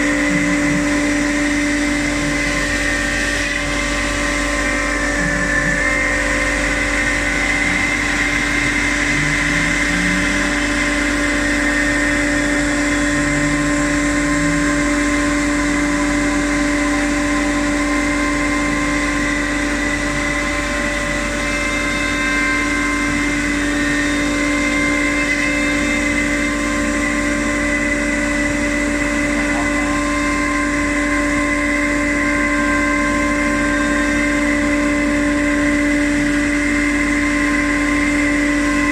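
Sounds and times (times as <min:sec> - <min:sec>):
machinery hum and whine: 0:00.0 - 0:38.9.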